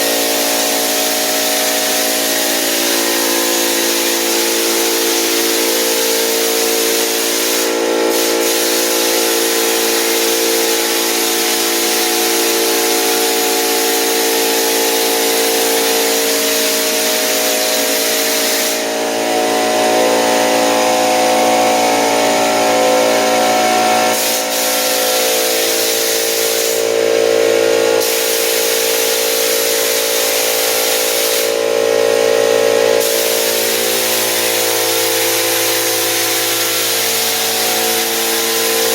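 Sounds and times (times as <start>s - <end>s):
air compressor humming: 0.0s - 38.9s
texture spray gun hissing: 0.0s - 38.9s.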